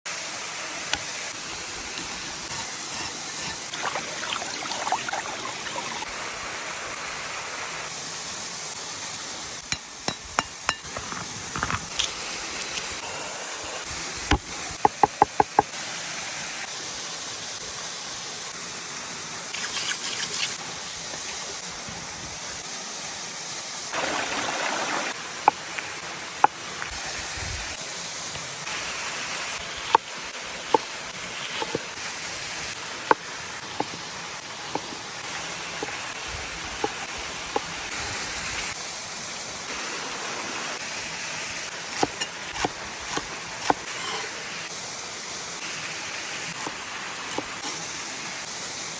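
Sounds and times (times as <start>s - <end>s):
steady hiss: 0.1s - 48.9s.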